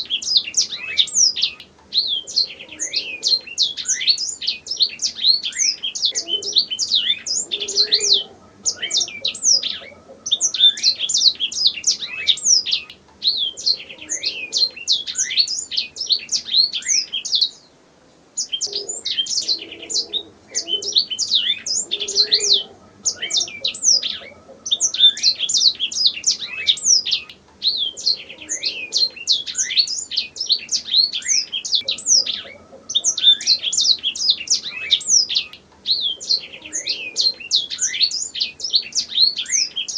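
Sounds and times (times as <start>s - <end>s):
canary singing chirps and trills: 0.0s - 17.7s, 18.4s - 39.9s.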